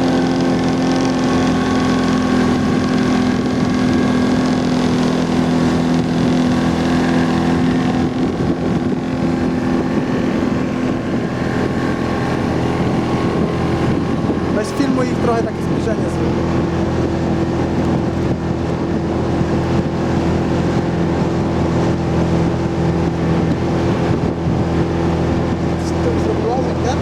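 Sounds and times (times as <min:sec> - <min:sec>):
speedboat engine running: 0:00.0 - 0:27.0
water rushing: 0:00.0 - 0:27.0
wind buffeting microphone: 0:00.0 - 0:27.0.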